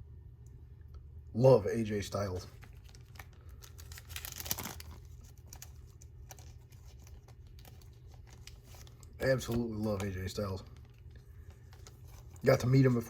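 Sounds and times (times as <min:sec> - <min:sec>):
plastic packaging crinkling: 0:02.1 - 0:13.0.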